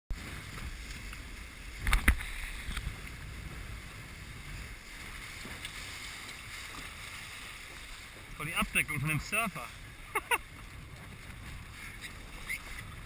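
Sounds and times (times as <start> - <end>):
water rushing along a hull: 0.1 - 13.0
wind rumbling on microphone: 0.1 - 13.0.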